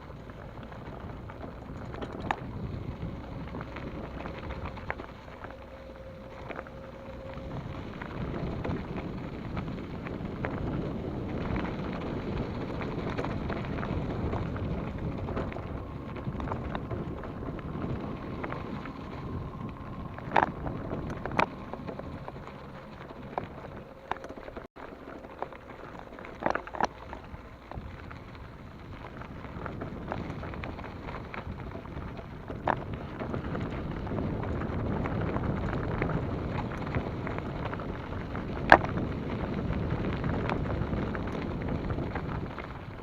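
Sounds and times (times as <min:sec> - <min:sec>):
wind on microphone: 0:00.0 - 0:24.8, 0:25.4 - 0:43.0
bike tyre rumble: 0:00.0 - 0:43.0
bike knocks and rattles: 0:06.2 - 0:43.0.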